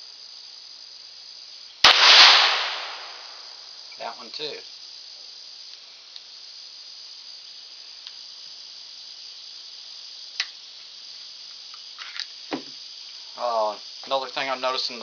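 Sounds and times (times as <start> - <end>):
high insect chorus: 0.0 - 15.0.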